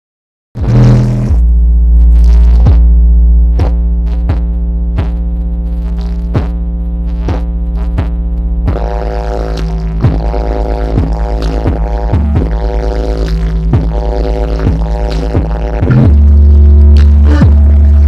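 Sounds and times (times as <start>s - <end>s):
electronic music over pa system: 0.6s - 18.0s.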